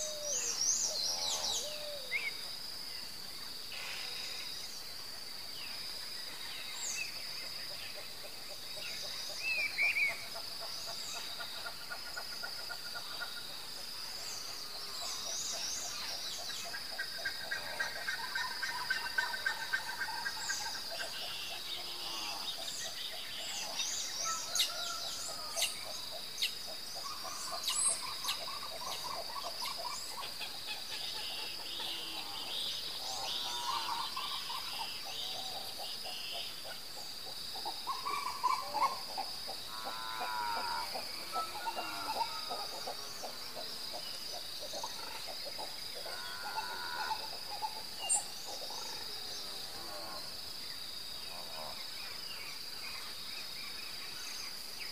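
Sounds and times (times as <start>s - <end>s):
high-pitched insect trill: 9.3s - 54.9s.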